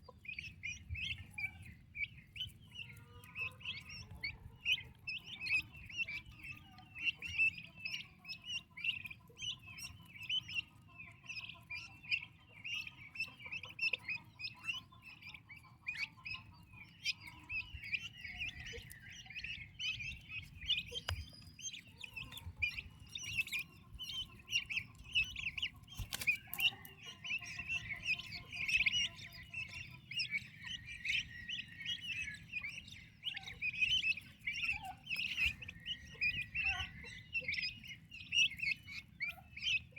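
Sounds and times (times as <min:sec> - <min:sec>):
turkey poults peeping: 0:00.0 - 0:39.9.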